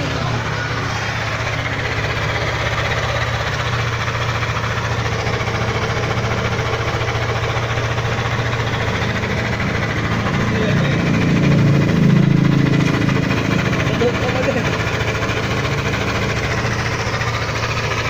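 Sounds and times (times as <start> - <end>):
scooter engine running: 0.0 - 18.0.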